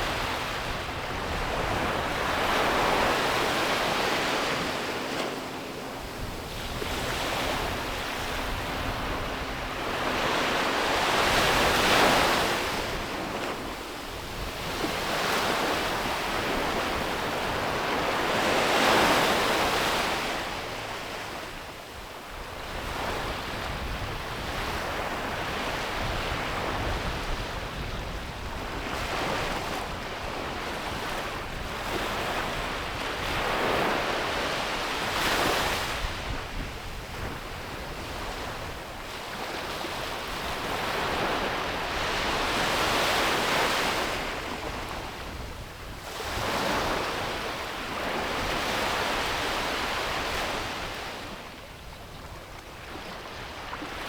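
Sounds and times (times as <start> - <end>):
ocean waves breaking on beach: 0.0 - 54.0
wind on microphone: 0.0 - 54.0.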